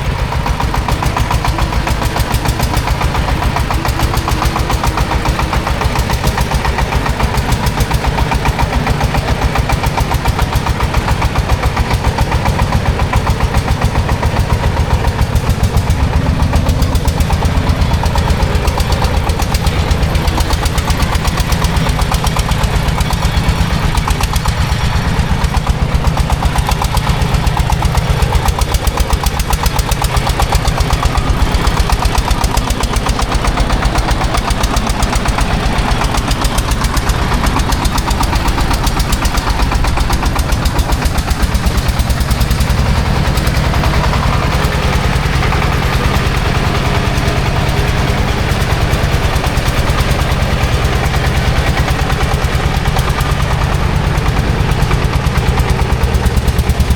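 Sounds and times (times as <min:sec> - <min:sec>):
heavy machine engine knocking: 0:00.0 - 0:56.9.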